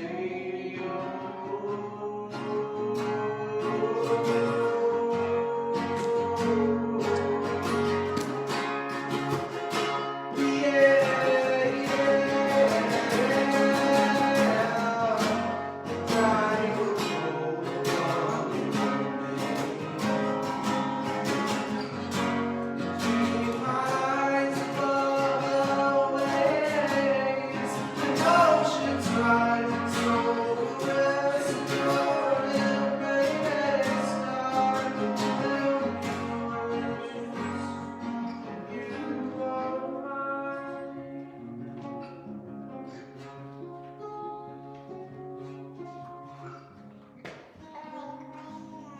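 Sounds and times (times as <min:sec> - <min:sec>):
person singing: 0:00.0 - 0:42.3, 0:47.6 - 0:48.9
strummed acoustic guitar: 0:00.0 - 0:48.9.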